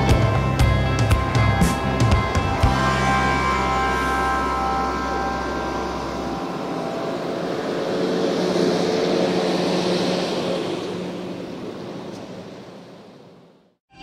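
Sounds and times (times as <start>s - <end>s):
diesel engines droning: 0.0s - 13.8s.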